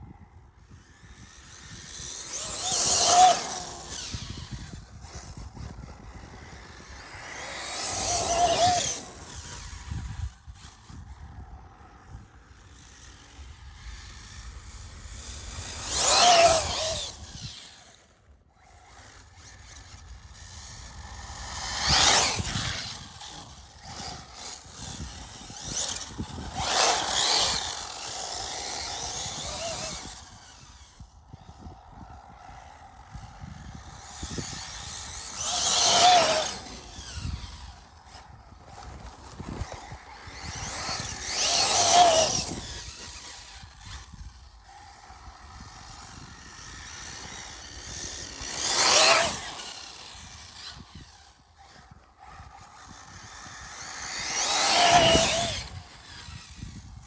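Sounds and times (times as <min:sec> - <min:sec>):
rc car motor whine: 0:00.0 - 0:57.0.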